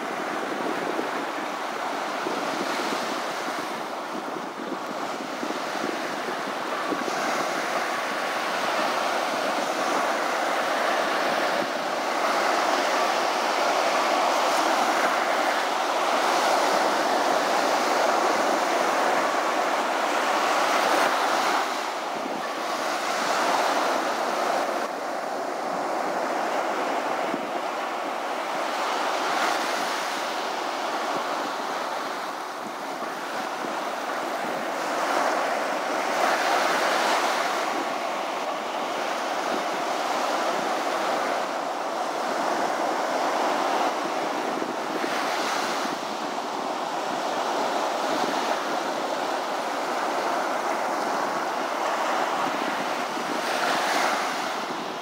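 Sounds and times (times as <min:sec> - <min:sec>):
ocean surf breaking: 0:00.0 - 0:55.0
wind: 0:00.0 - 0:55.0.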